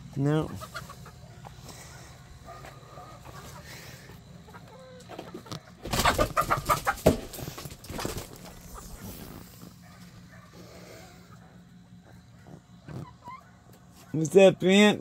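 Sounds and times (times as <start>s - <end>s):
chickens clucking: 0.0s - 15.0s
hens squawking: 0.2s - 9.3s, 10.6s - 14.2s.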